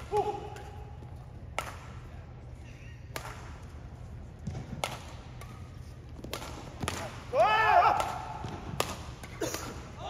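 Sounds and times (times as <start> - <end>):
rackets striking shuttlecock: 0.0 - 10.0
steady low hum: 0.0 - 10.0.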